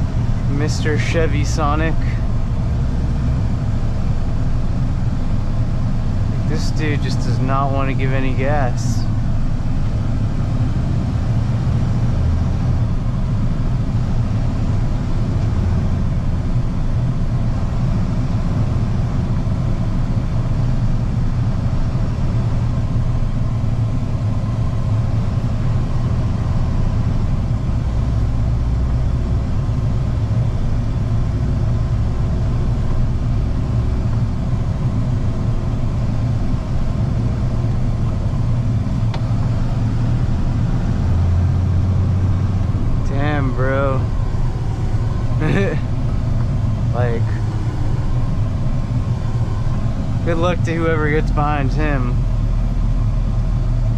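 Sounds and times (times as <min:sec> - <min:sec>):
road noise: 0:00.0 - 0:53.9
truck engine rumble: 0:00.0 - 0:53.9.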